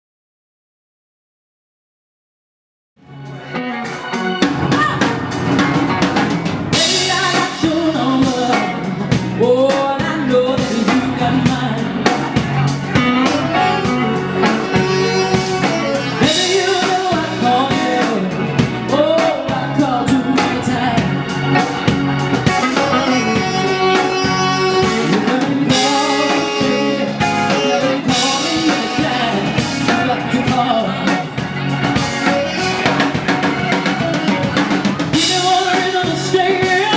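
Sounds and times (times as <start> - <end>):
blues band playing: 3.0 - 36.9
drum rimshots and bass drum: 4.4 - 36.9.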